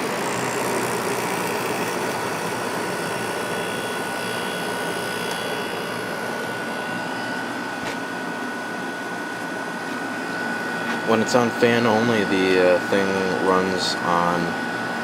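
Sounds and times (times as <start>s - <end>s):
air conditioner fan airflow: 0.0s - 15.0s
thin steady whine: 0.0s - 15.0s.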